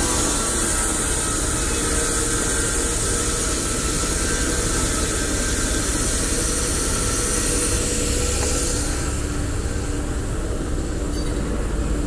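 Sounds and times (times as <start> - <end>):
band sawmill humming: 0.0 - 12.0.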